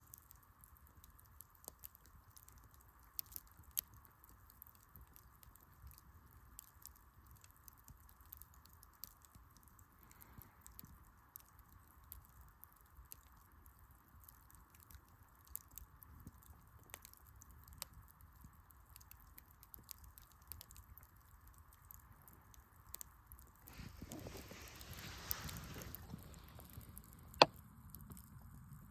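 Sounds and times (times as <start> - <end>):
embers crackling and popping: 0.0 - 28.9
faint steady hiss: 0.0 - 28.9.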